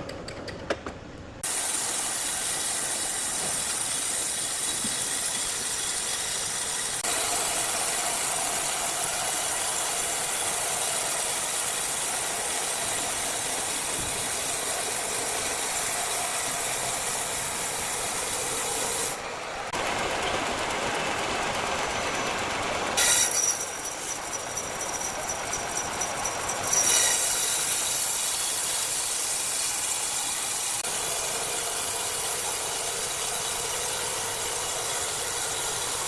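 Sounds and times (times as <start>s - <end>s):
sawmill saw running: 1.4s - 36.0s.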